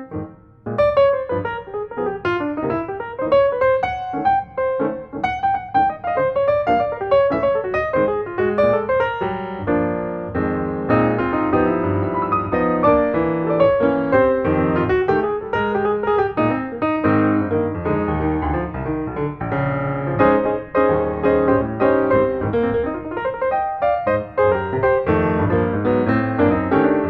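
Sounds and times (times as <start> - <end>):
solo piano music: 0.0 - 27.0.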